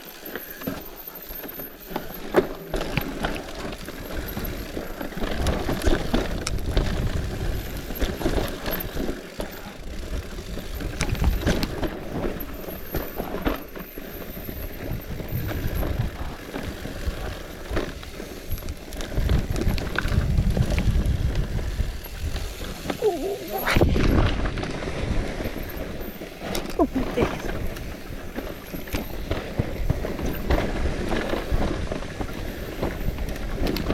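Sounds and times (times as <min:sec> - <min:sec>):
bike knocking and rattling: 0:00.0 - 0:33.9
wind rumble on microphone: 0:04.0 - 0:09.1, 0:09.9 - 0:33.9.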